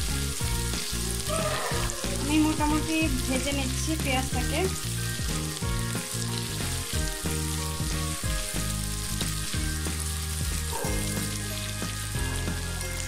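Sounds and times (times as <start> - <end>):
low background music: 0.0 - 13.0
onions sizzling in hot oil: 0.0 - 13.0.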